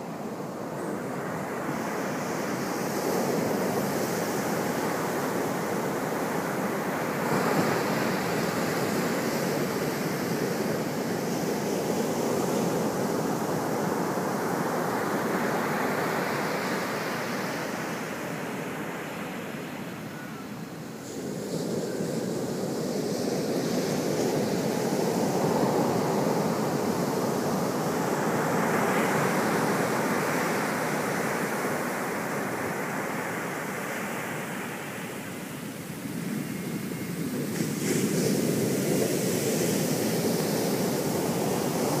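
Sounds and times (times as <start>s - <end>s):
ocean surf breaking on beach: 0.0s - 42.0s.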